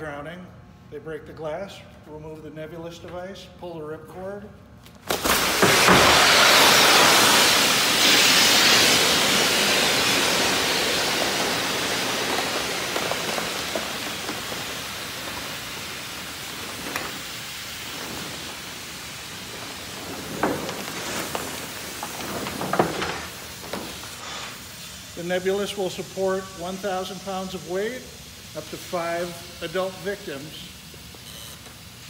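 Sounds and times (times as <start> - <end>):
compressed gas hissing: 5.3 - 32.0.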